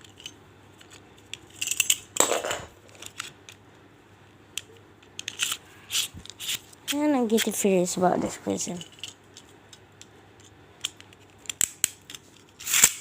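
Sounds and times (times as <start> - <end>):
plastic parts clicking and scraping: 0.0 - 3.6, 4.6 - 13.0.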